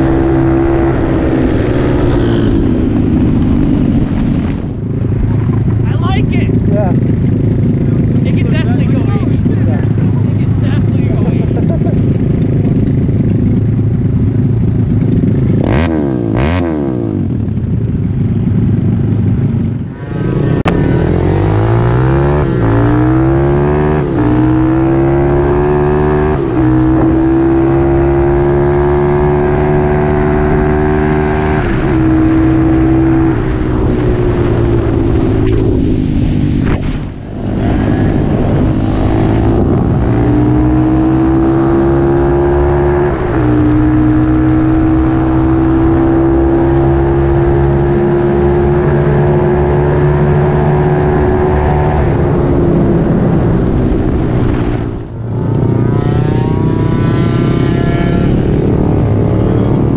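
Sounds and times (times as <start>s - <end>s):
mini bike engine accelerating: 0.0s - 36.6s, 37.4s - 59.9s.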